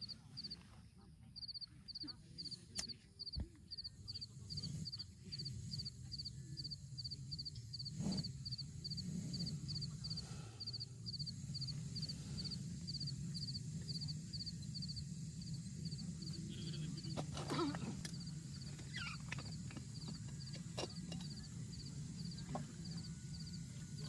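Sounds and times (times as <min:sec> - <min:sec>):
insect chirping: 0:01.4 - 0:24.0
low steady rumble: 0:03.9 - 0:24.0.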